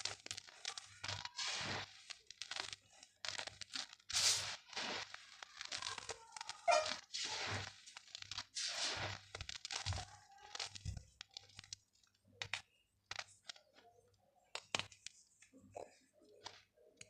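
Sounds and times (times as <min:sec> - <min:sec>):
dried mud crunching and crumbling: 0:00.0 - 0:13.7.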